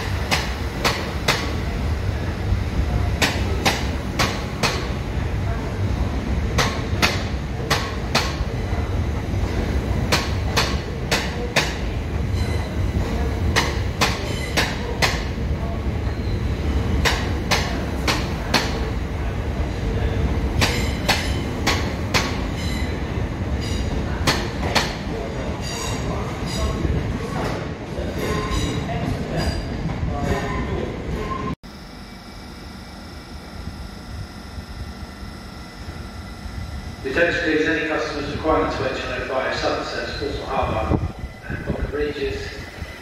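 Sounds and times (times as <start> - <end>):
train low rumble: 0.0 - 43.0.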